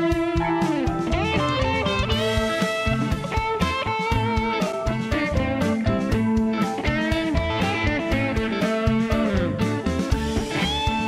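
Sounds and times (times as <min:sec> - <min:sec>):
guitar: 0:00.0 - 0:11.0
steady drum beat: 0:00.0 - 0:11.0.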